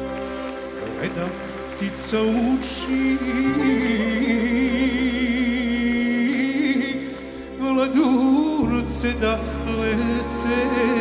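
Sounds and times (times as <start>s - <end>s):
live band playing: 0.0s - 11.0s
man singing with vibrato: 1.8s - 11.0s.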